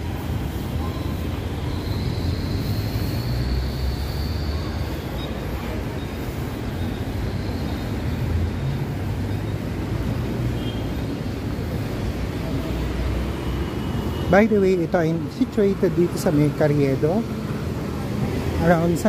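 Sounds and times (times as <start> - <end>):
city traffic rumble: 0.0 - 19.0
faint high whine: 0.0 - 19.0.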